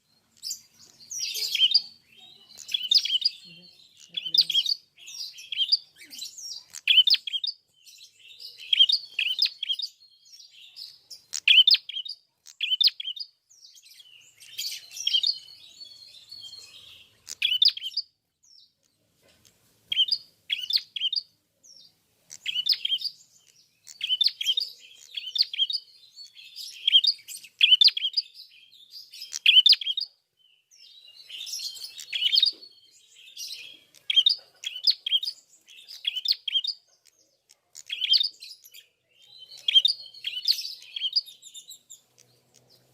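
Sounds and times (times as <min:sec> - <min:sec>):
bird chirping rapid phrases: 0:00.0 - 0:42.9.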